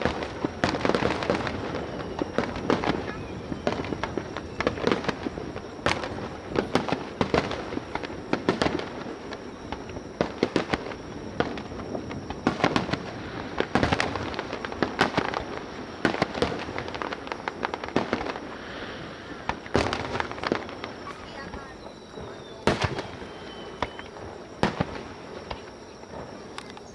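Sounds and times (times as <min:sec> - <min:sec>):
fireworks bangs and cracks: 0:00.0 - 0:26.9
fireworks crackling: 0:00.0 - 0:26.9.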